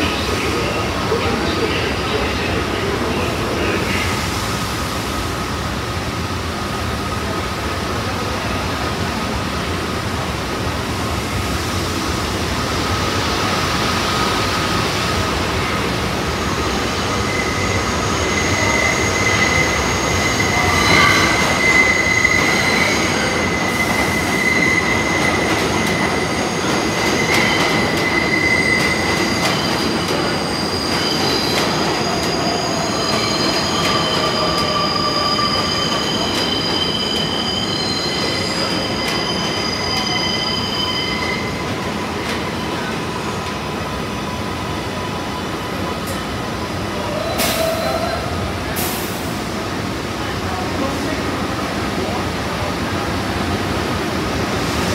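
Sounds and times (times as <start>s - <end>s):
subway train wheels squealing: 0.0s - 54.9s.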